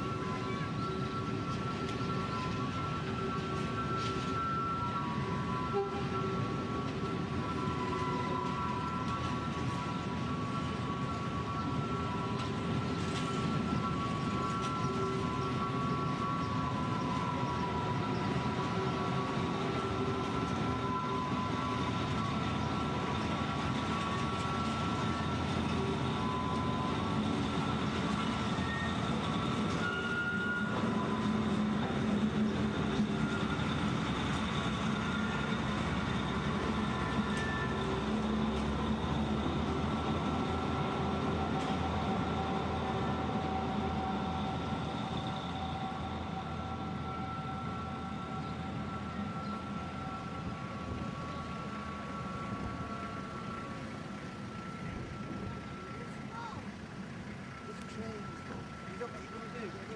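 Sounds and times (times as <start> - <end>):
diesel locomotive engine: 0.0 - 59.9
freight train rolling: 0.0 - 59.9
wheel squeals: 0.0 - 59.9.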